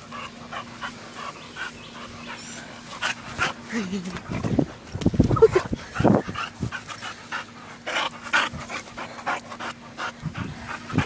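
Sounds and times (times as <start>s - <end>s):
dog panting: 0.0s - 4.7s, 5.4s - 11.0s.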